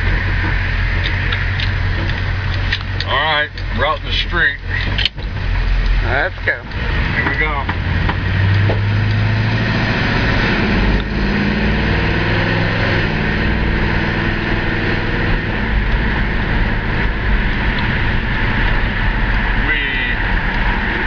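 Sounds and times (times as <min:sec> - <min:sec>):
car engine accelerating: 0:00.0 - 0:21.0
road noise: 0:00.0 - 0:21.0.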